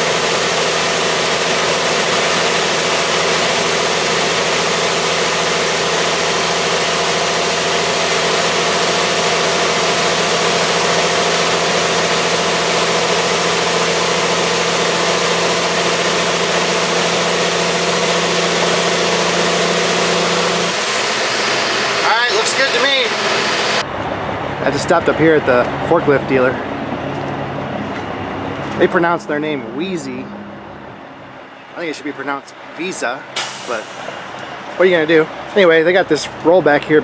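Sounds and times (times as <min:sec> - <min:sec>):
diesel engine and road noise: 0:00.0 - 0:37.0.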